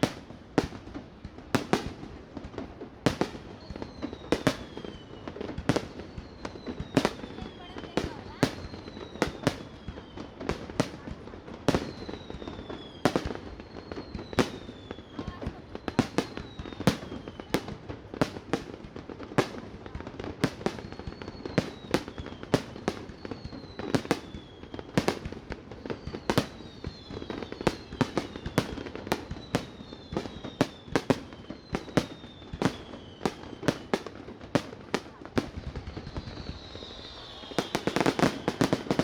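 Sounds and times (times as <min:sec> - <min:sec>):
fireworks bursting bangs: 0:00.0 - 0:39.0
fireworks whistles falling in pitch: 0:01.5 - 0:39.0.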